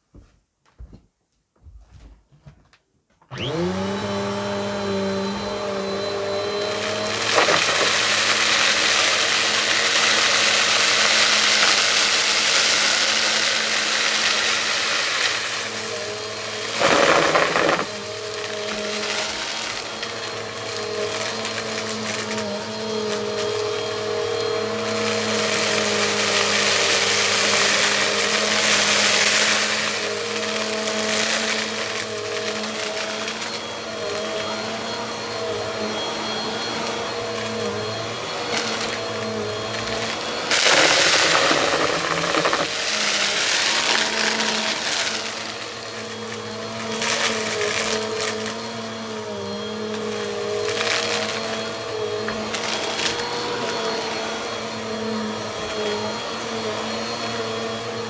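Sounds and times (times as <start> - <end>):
vacuum cleaner motor whining: 3.3 - 58.0.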